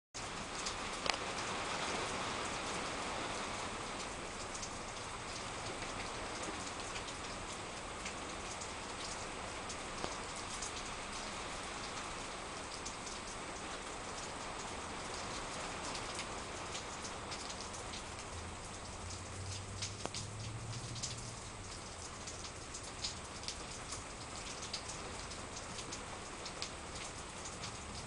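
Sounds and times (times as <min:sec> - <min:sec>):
raindrops ticking: 0:00.2 - 0:28.0
steady rain hiss: 0:00.2 - 0:28.0.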